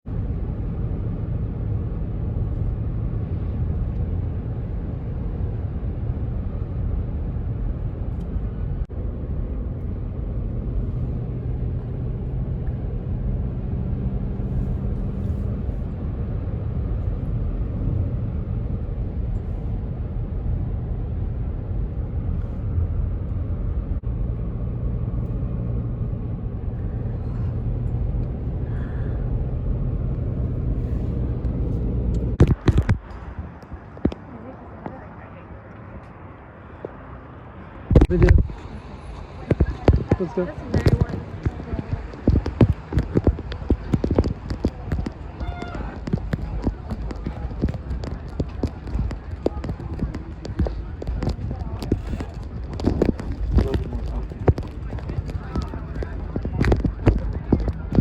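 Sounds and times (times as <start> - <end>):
road vehicle rumbling: 0.0 - 58.0.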